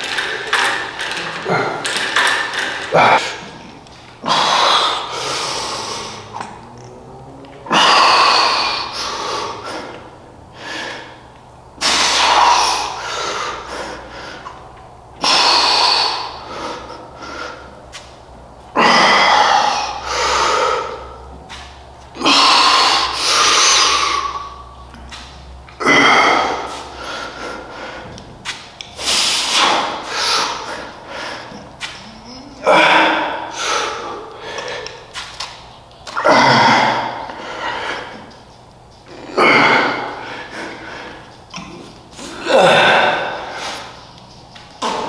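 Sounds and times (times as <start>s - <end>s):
man breathing heavily: 0.0s - 6.6s, 7.6s - 35.2s, 36.3s - 45.0s.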